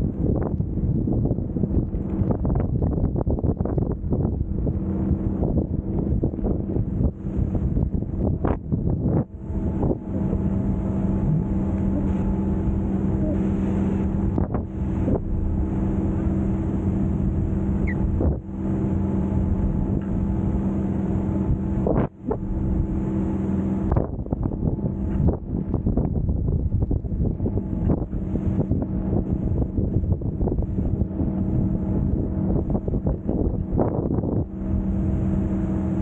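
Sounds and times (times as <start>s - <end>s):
steady low hum: 0.0s - 36.0s
wind buffeting microphone: 0.0s - 36.0s.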